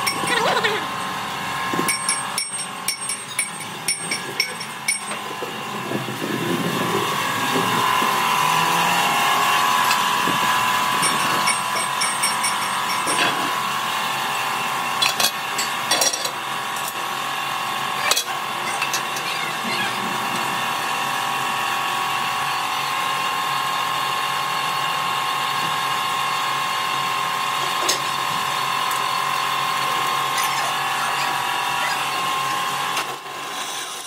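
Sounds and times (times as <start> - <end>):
metalworking machinery humming: 0.0 - 34.0.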